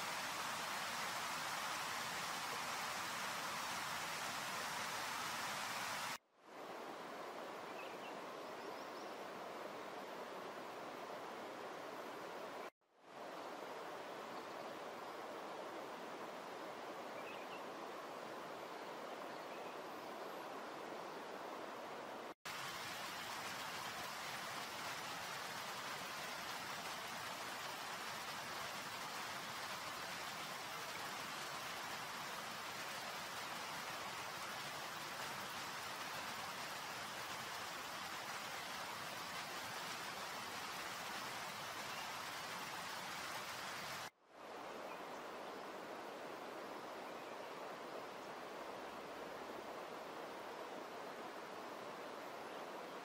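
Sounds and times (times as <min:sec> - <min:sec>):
steady hiss of noise: 0:00.0 - 0:53.0.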